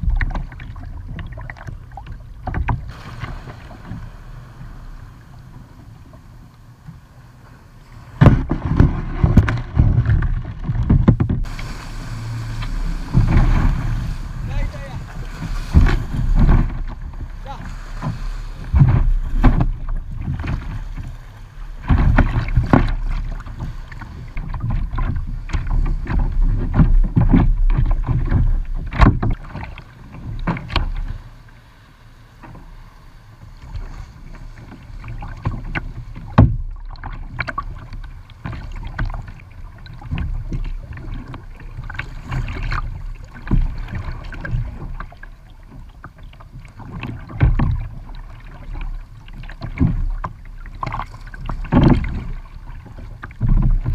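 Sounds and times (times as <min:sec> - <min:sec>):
wind rumbling on microphone: 0:00.0 - 0:31.4, 0:32.5 - 0:53.9
paddle splashing: 0:00.0 - 0:53.9
water splashing on kayak hull: 0:00.0 - 0:53.9.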